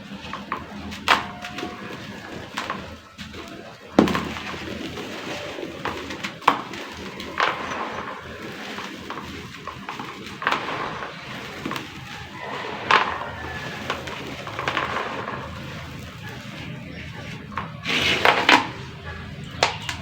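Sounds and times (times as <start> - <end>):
dry clay crumbling into water: 0.0 - 20.0.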